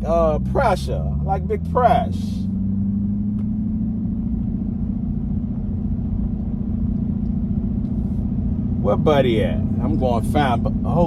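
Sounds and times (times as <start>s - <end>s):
car engine idling at low revs: 0.0s - 11.0s.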